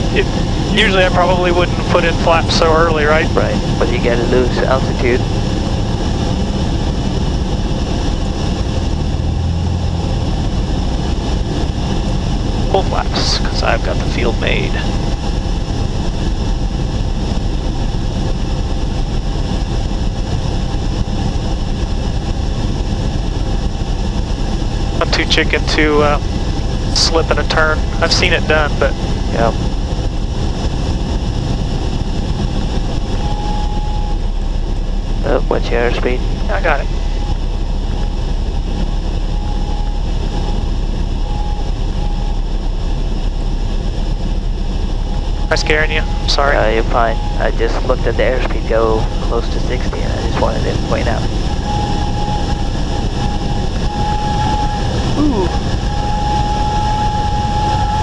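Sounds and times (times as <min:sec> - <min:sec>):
aircraft engine idling: 0:00.0 - 0:58.0
airflow drone: 0:00.0 - 0:58.0.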